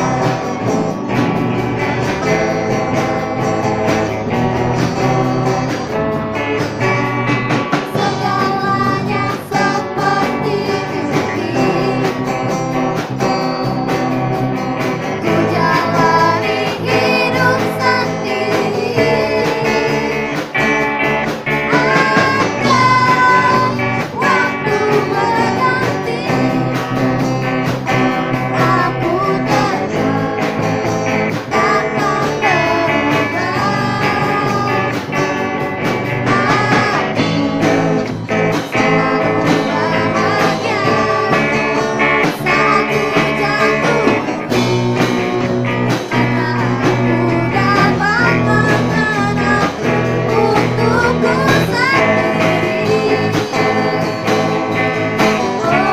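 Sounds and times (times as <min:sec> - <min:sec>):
bass guitar: 0:00.0 - 0:55.9
drum kit: 0:00.0 - 0:55.9
electric guitars: 0:00.0 - 0:55.9
girls singing: 0:07.6 - 0:20.9, 0:21.5 - 0:45.3, 0:45.9 - 0:55.9.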